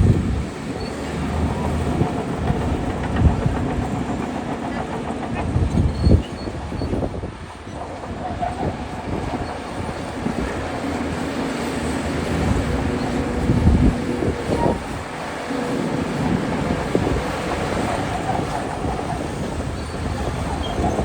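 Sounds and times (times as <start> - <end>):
bulldozer diesel engine running: 0.0 - 21.0
steel tracks clanking: 0.0 - 21.0.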